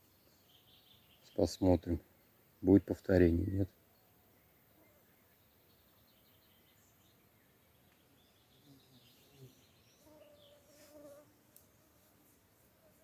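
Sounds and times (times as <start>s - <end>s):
distant bird chirps: 0.0s - 10.8s.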